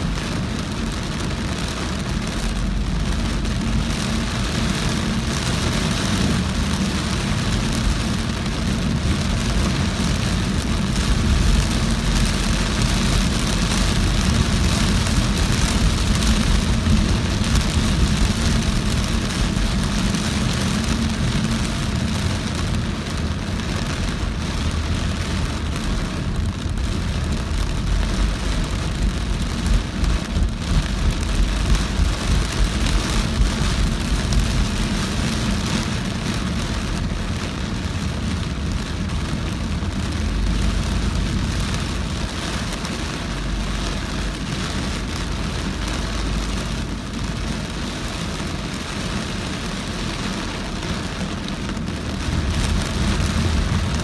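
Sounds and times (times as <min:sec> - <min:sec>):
heavy rain on a car: 0:00.0 - 0:54.0
low road rumble: 0:00.0 - 0:54.0
tyres on wet road: 0:00.0 - 0:54.0.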